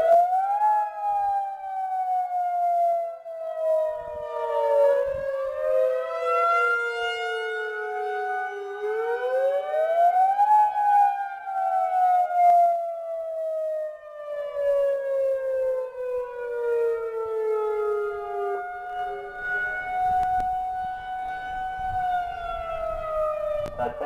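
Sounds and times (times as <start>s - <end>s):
mechanical siren wailing: 0.0s - 24.0s
electronic siren wailing: 3.4s - 12.7s, 13.3s - 24.0s.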